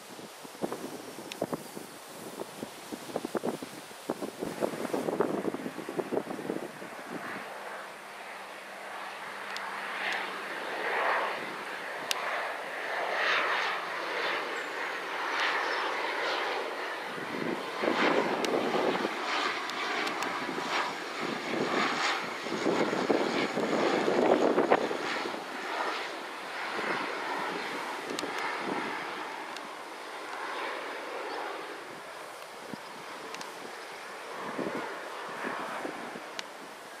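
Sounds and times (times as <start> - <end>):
turboprop aircraft approaching: 3.4 - 37.0.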